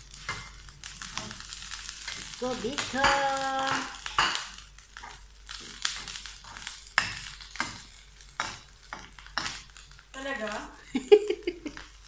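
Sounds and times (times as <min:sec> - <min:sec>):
light sizzle: 0:00.0 - 0:12.0.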